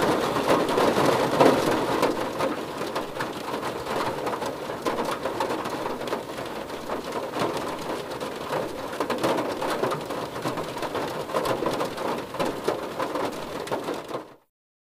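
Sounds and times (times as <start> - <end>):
rain drumming on car roof: 0.0 - 14.5.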